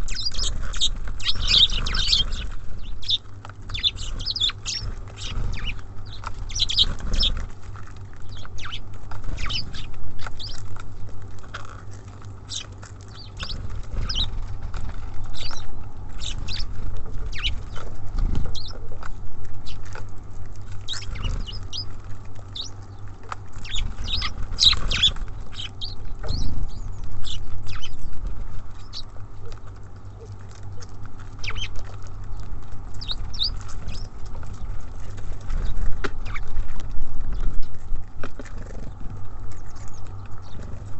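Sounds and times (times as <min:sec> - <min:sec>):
birds pecking on feeder: 0:00.0 - 0:40.9
songbirds chirping: 0:00.0 - 0:40.9
steady low hum: 0:00.0 - 0:40.9.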